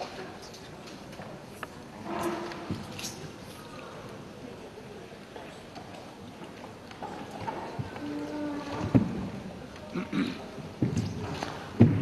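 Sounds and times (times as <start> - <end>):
sports hall background noise: 0.0 - 12.0.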